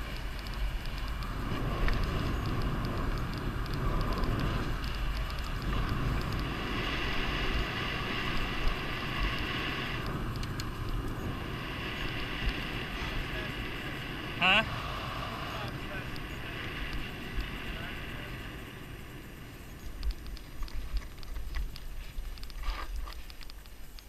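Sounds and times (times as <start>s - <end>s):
wind buffeting microphone: 0.0s - 23.9s
bike tyres rumbling on asphalt: 0.0s - 24.0s.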